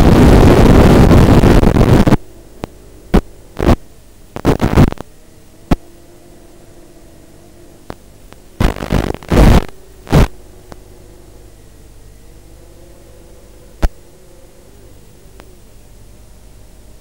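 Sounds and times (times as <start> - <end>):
faint wavering hum: 0.0 - 17.0
steady hiss: 0.0 - 17.0.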